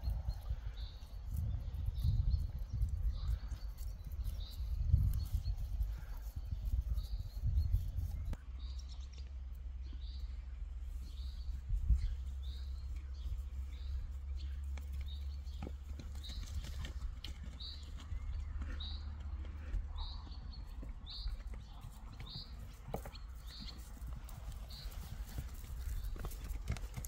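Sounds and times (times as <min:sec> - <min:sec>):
small bird chirping: 0:00.0 - 0:19.2, 0:20.0 - 0:27.0
steady low rumble: 0:00.0 - 0:27.0.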